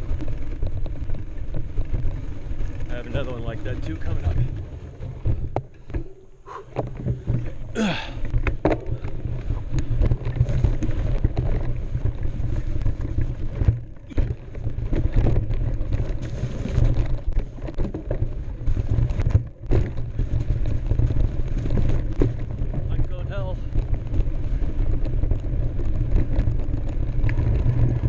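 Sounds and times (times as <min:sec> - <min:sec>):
bike rattling over rough ground: 0:00.0 - 0:28.0
wind rumble on microphone: 0:00.0 - 0:28.0.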